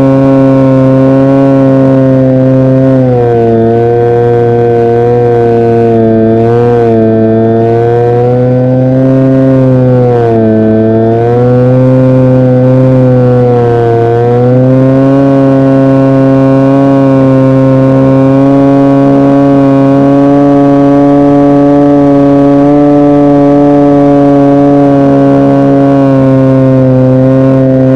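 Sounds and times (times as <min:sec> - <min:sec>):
electric motor and propeller whine: 0:00.0 - 0:27.9.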